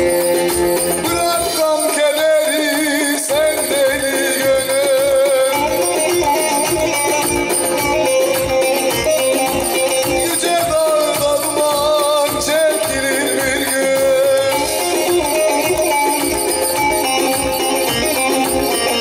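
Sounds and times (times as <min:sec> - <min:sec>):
plucked lute melody: 0:00.0 - 0:19.0
steady percussion beat: 0:00.0 - 0:19.0.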